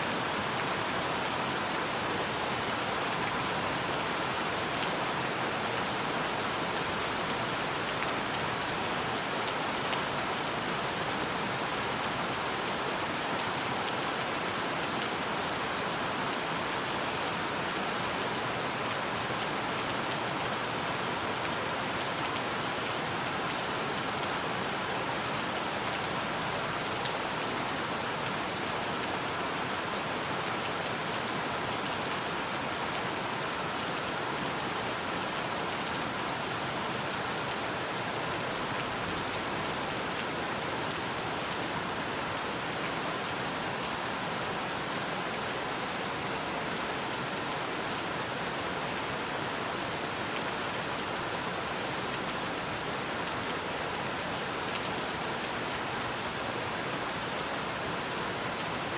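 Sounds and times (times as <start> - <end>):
rain on surfaces: 0.0 - 58.9.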